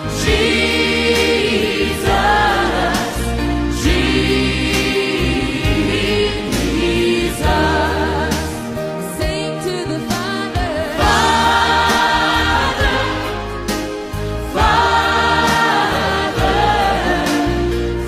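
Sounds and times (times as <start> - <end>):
steady bass: 0.0 - 9.3, 9.9 - 18.0
choir singing gospel music: 0.0 - 18.0.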